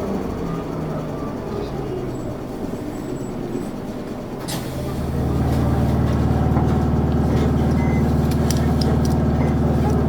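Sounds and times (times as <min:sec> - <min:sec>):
bus diesel engine under load: 0:00.0 - 0:10.0.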